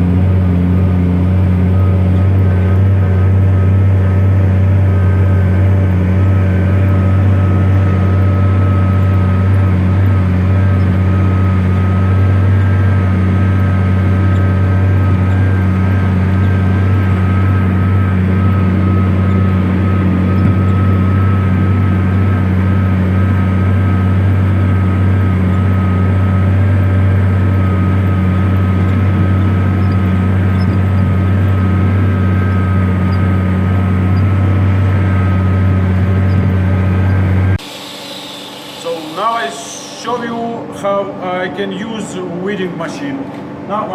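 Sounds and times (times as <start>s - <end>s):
thin steady whine: 0.0s - 43.9s
tractor diesel engine droning: 0.0s - 43.9s.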